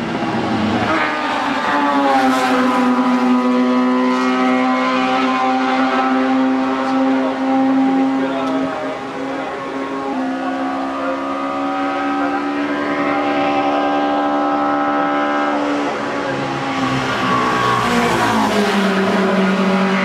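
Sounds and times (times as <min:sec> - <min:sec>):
race car engine at high revs: 0:00.0 - 0:20.0.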